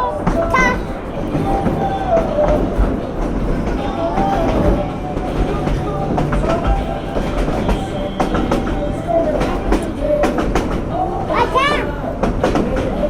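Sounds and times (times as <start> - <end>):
train rumbling on track: 0.0 - 13.0
wheels clacking and knocking: 0.0 - 13.0.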